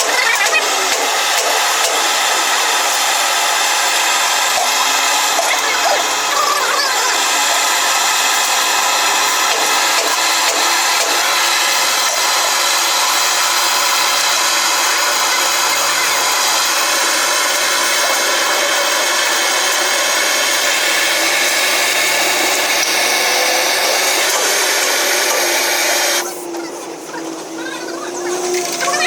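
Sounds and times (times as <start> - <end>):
machine hissing and whining: 0.0 - 29.0.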